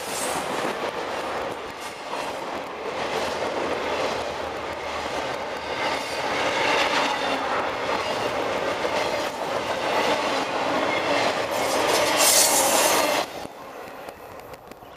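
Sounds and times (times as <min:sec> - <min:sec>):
train wheels clattering over track: 0:00.0 - 0:14.9.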